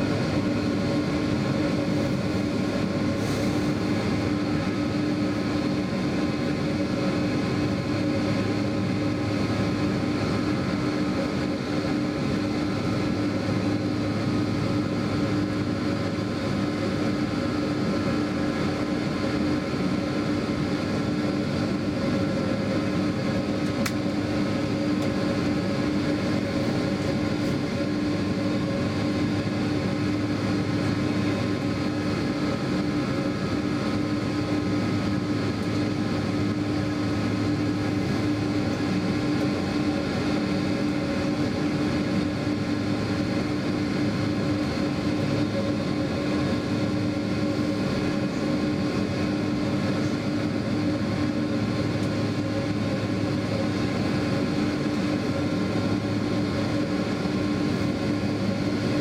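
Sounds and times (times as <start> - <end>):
cabin air system: 0.0 - 59.0
jet engines idling: 0.0 - 59.0.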